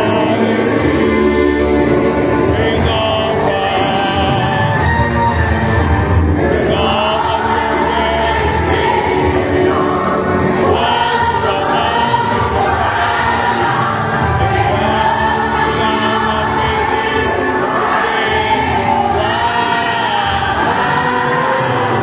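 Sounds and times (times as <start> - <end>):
congregation singing a hymn: 0.0 - 22.0
instrumental accompaniment: 0.0 - 22.0.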